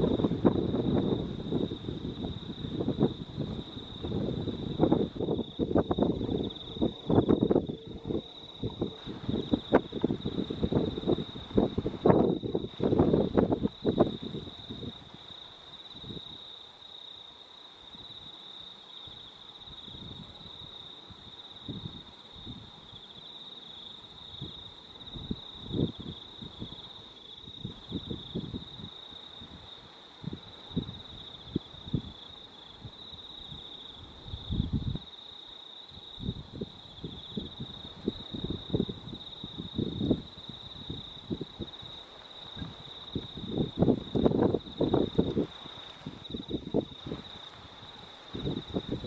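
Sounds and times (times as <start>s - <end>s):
wind buffeting microphone: 0.0s - 15.4s, 19.8s - 23.2s, 24.3s - 35.1s, 36.1s - 49.0s
insect trill: 0.0s - 49.0s.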